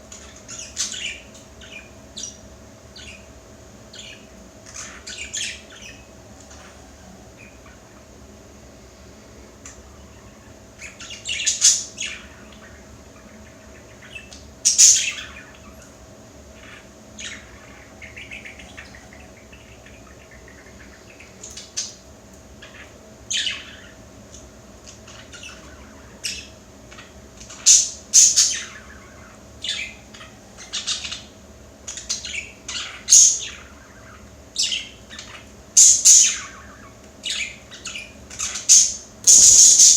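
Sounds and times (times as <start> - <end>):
budgerigar chirping and squawking: 3.9 - 8.0, 9.9 - 22.0, 22.6 - 24.0, 24.9 - 39.9.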